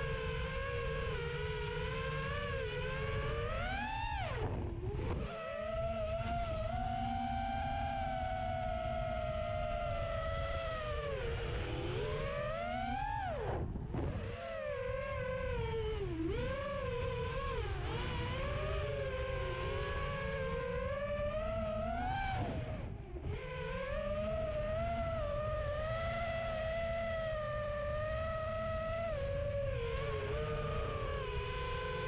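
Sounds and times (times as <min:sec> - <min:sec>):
drone propellers whining: 0:00.0 - 0:32.0
low rumble of wind: 0:00.0 - 0:32.0.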